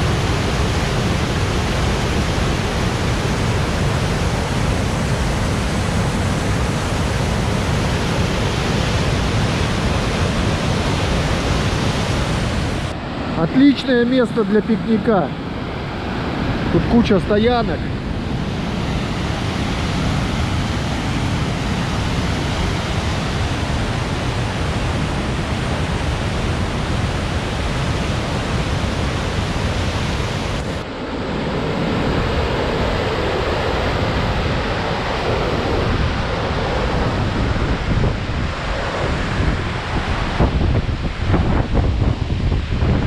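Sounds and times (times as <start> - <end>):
rush of white water: 0.0 - 43.0.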